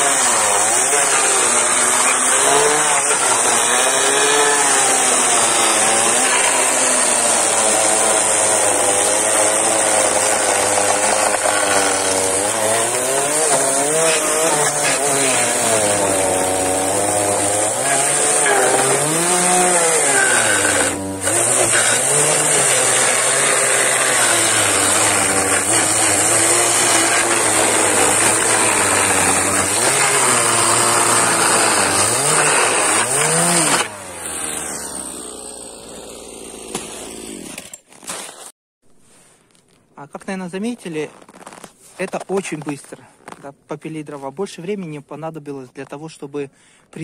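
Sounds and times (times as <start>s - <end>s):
chainsaw cutting wood: 0.0s - 38.4s.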